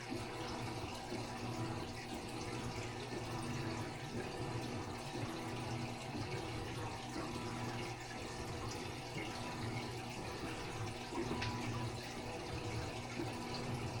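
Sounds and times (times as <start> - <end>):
water trickling into aquarium: 0.0 - 14.0.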